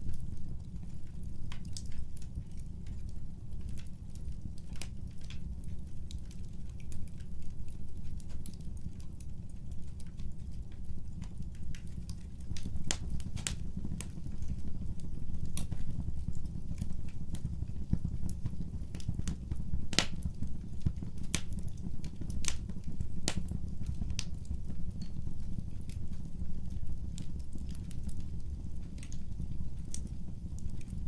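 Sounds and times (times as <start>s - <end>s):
low fire rumble: 0.0s - 31.0s
wood fire crackling and popping: 0.0s - 31.0s.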